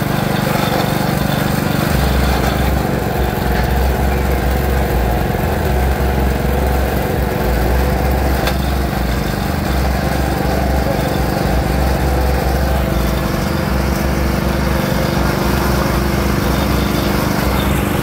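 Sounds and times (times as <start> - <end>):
crushing machine droning: 0.0 - 18.0.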